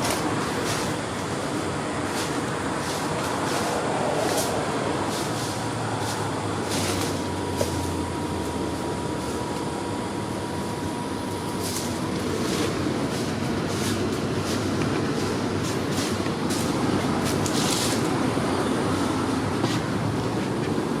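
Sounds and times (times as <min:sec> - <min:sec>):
tram running noise: 0:00.0 - 0:21.0.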